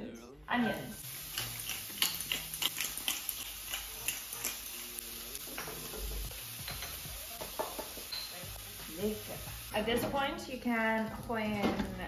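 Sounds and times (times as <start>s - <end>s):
onion sizzling in a frying pan: 0.5s - 12.0s.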